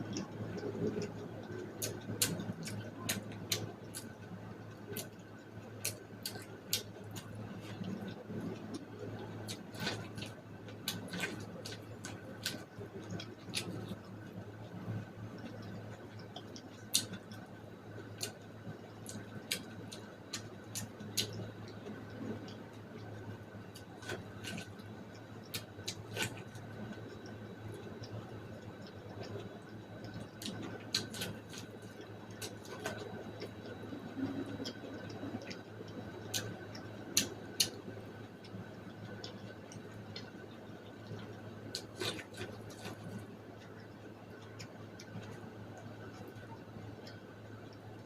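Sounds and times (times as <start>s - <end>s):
chewing corn on the cob: 0.0s - 48.0s
steady low hum: 0.0s - 48.0s.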